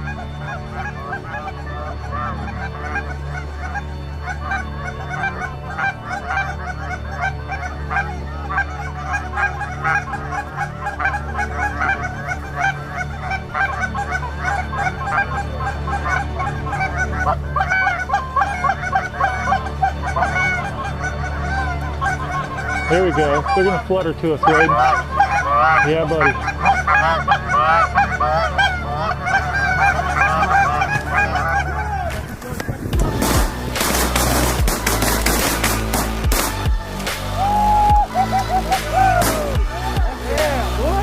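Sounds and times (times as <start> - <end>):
geese honking: 0.0 - 41.0.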